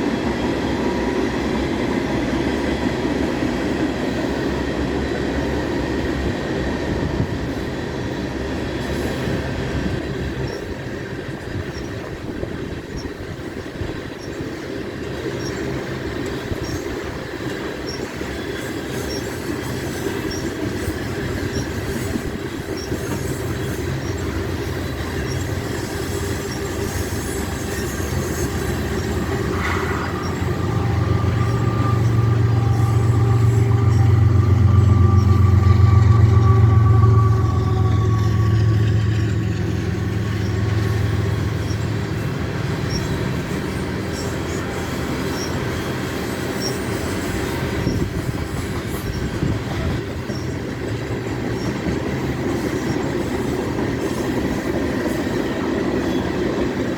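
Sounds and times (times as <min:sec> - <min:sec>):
steel wheels squealing on rail: 0:00.0 - 0:56.9
train cars rumbling past: 0:00.0 - 0:56.9.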